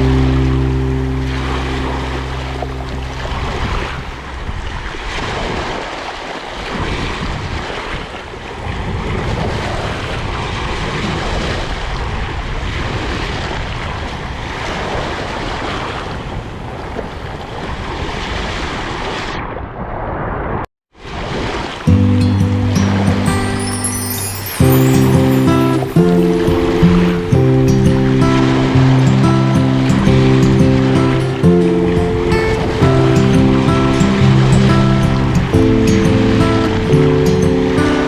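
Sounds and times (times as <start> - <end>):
sea waves washing ashore: 0.0 - 19.3, 21.0 - 38.0.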